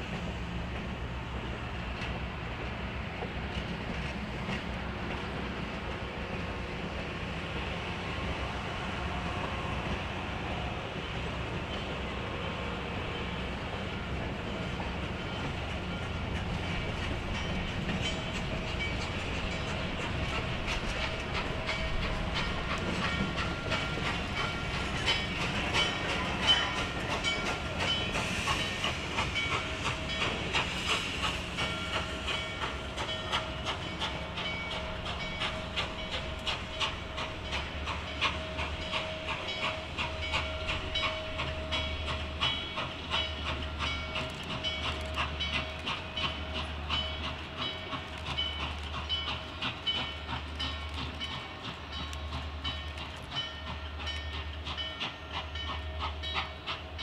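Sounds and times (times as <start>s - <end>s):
steam train hissing: 0.0s - 57.0s
train wheels clicking on rails: 0.0s - 57.0s.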